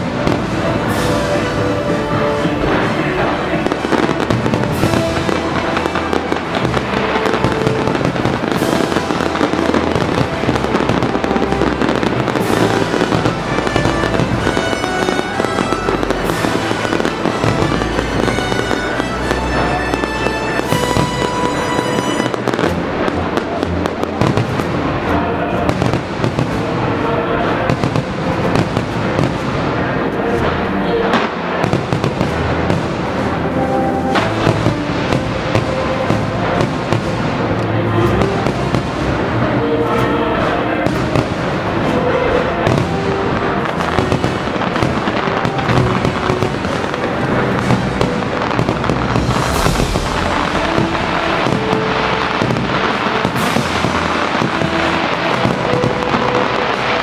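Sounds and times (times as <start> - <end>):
fireworks bursting: 0.0 - 57.0
music playing: 0.0 - 57.0.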